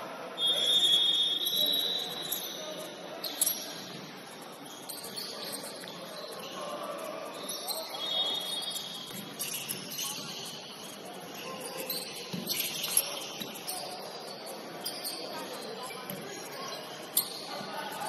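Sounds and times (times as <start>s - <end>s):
players' voices: 0.0s - 18.0s
sneakers squeaking on court: 3.2s - 18.0s.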